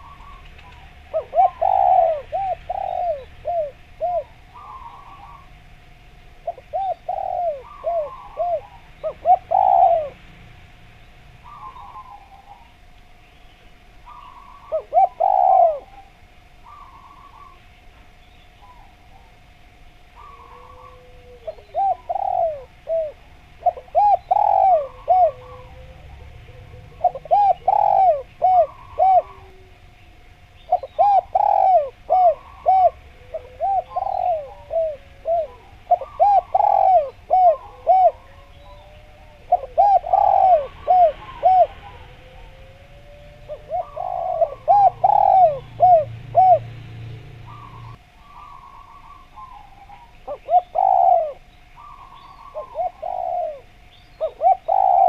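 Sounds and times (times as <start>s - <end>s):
dove cooing: 0.0s - 10.4s, 11.4s - 12.9s, 14.0s - 55.0s.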